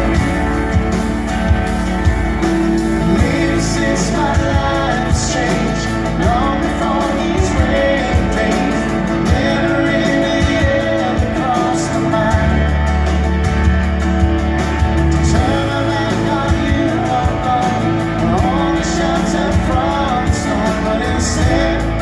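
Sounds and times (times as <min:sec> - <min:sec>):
guitars: 0:00.0 - 0:22.0
man singing lead vocal: 0:00.0 - 0:22.0
rock worship band playing: 0:00.0 - 0:22.0.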